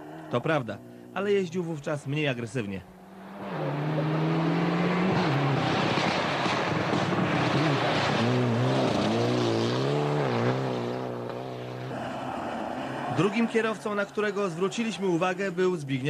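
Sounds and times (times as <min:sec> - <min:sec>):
rally car engine revving: 0:02.9 - 0:15.8.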